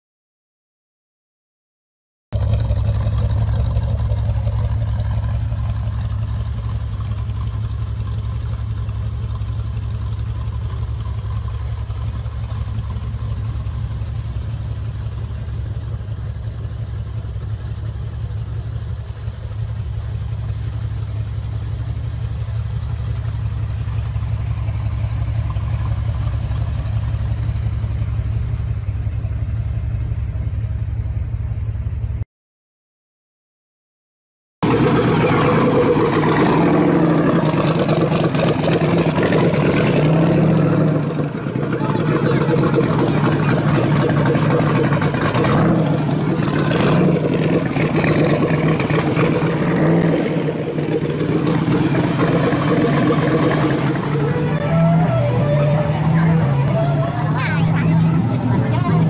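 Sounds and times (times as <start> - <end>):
car engine exhaust rumble: 2.3 - 32.2, 34.6 - 59.0.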